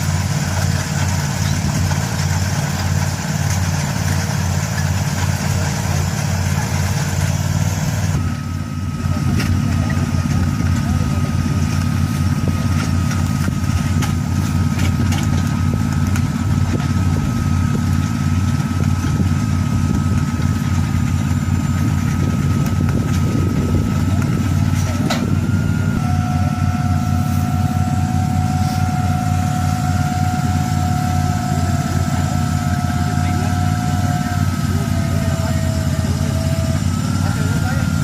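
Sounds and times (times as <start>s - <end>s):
engine droning: 0.0s - 38.0s
high-pitched whine: 0.0s - 38.0s
lower whine: 0.0s - 38.0s.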